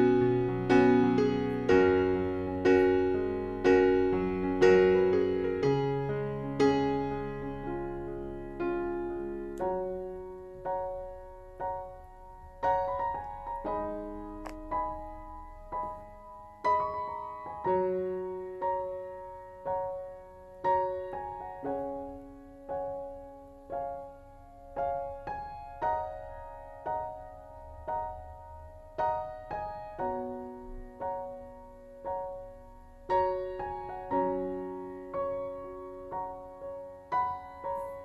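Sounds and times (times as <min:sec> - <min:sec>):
slow gentle piano melody: 0:00.0 - 0:38.0.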